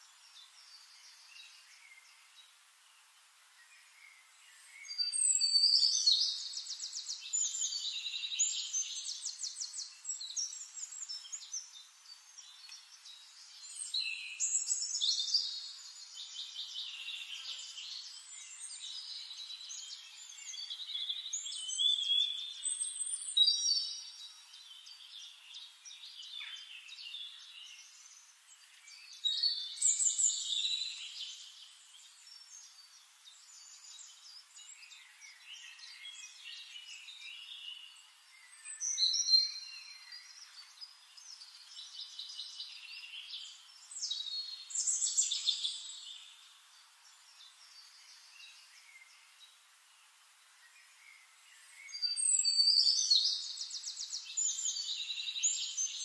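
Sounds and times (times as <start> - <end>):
faint steady hiss: 0.0 - 56.0
songbird twittering song: 0.0 - 56.0.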